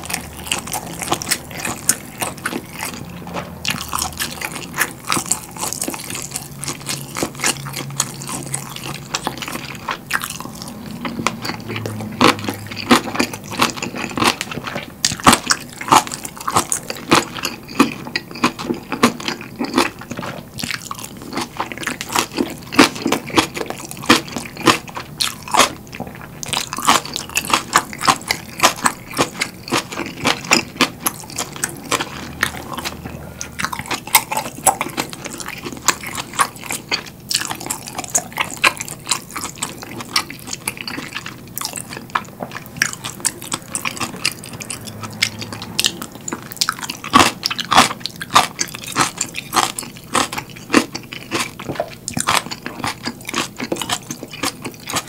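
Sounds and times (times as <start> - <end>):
crisp wet chewing crunches: 0.0 - 55.0.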